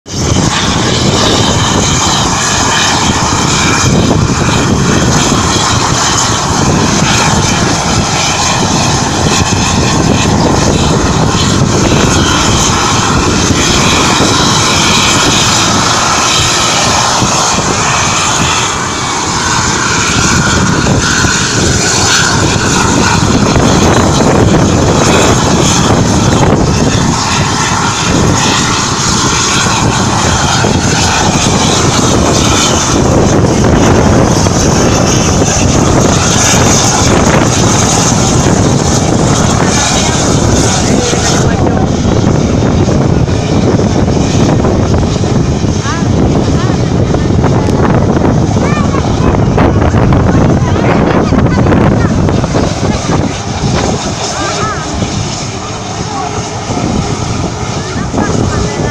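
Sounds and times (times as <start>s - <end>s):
helicopter turbine and rotor: 0.0s - 58.9s.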